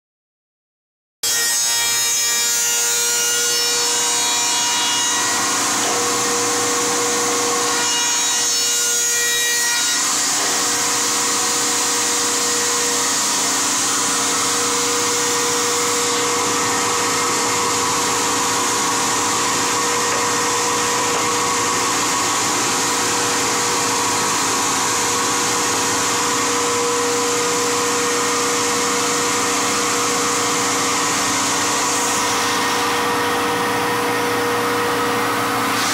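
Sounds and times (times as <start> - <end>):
cutter cutting wood: 1.2 - 35.9.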